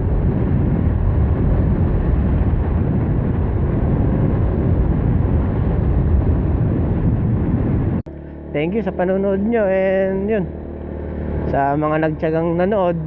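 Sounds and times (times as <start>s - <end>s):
road noise: 0.0s - 13.0s
wind rush on microphone: 0.0s - 13.0s.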